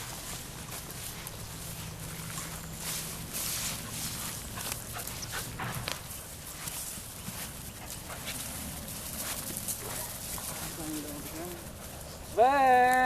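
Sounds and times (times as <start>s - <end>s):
scuffling and rustling: 0.0s - 13.0s.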